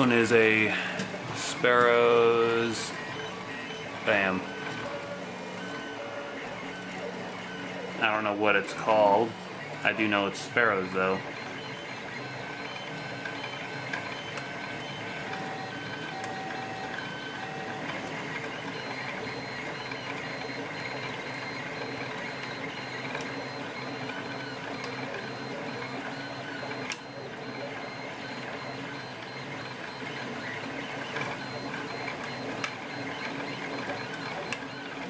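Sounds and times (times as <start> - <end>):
motor whines: 0.0 - 35.0
printers humming: 0.0 - 35.0.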